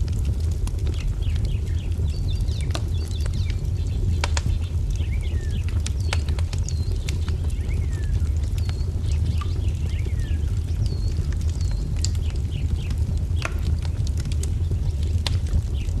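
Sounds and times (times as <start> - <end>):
low rumble: 0.0 - 16.0
songbirds chirping: 0.0 - 16.0
wood fire crackling and popping: 0.0 - 16.0.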